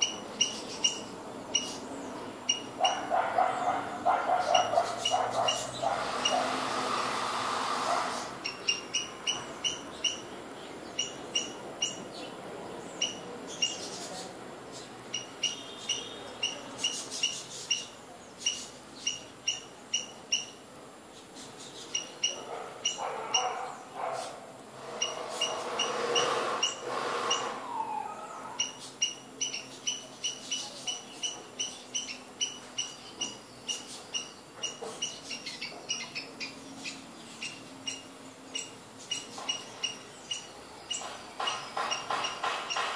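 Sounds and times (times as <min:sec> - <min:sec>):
small bird chirping: 0:00.0 - 0:06.6, 0:08.2 - 0:42.9.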